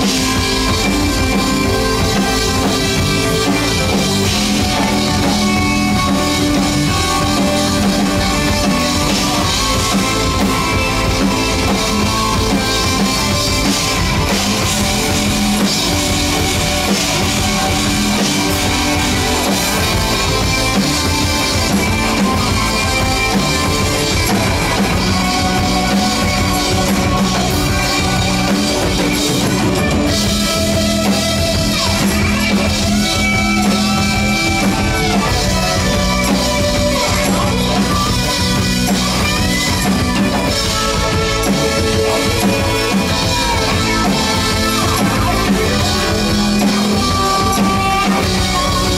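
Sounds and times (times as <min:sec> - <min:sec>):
bass guitar: 0:00.0 - 0:48.9
drum kit: 0:00.0 - 0:48.9
electric guitar: 0:00.0 - 0:48.9
keyboards: 0:00.0 - 0:48.9.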